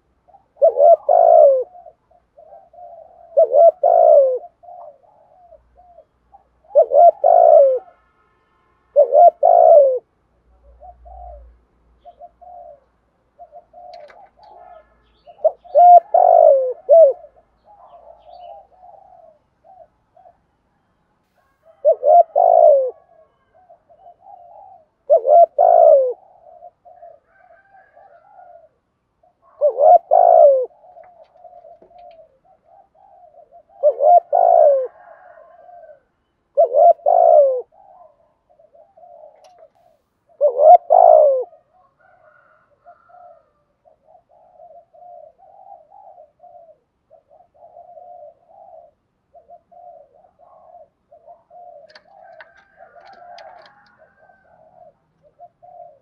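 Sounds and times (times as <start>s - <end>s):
dove cooing: 0.0s - 8.0s, 8.9s - 20.6s, 21.4s - 56.0s.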